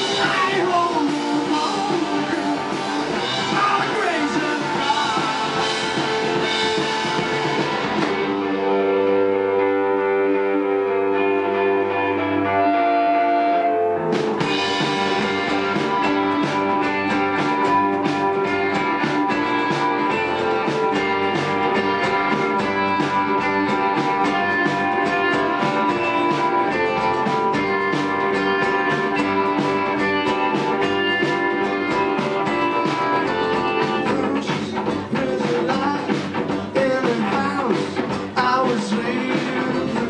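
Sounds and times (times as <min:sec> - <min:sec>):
steady drum beat: 0:00.0 - 0:09.3, 0:14.0 - 0:40.0
acoustic guitar: 0:00.0 - 0:40.0
electric guitar: 0:00.0 - 0:40.0.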